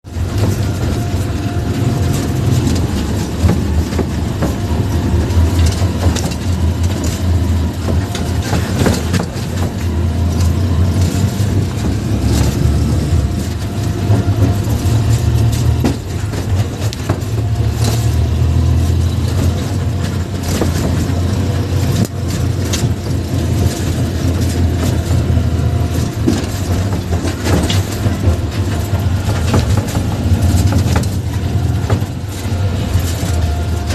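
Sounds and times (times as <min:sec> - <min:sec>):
car driving on a road: 0:00.0 - 0:33.9
knocks and rattles: 0:00.0 - 0:33.9.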